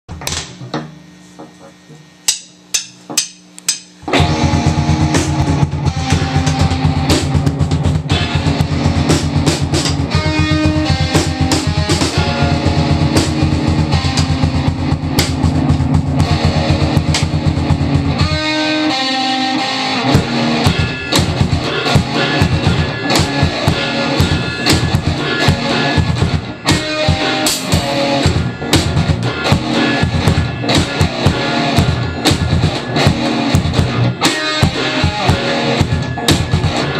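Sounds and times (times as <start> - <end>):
rock music with guitar and drums: 3.8 - 36.9.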